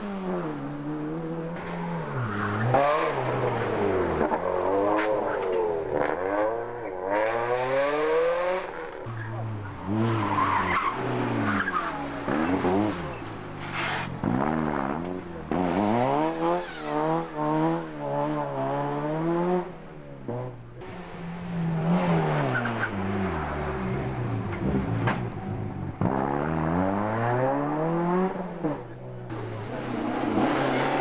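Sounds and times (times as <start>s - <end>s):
car engine revving hard: 0.0s - 28.8s, 29.5s - 31.0s.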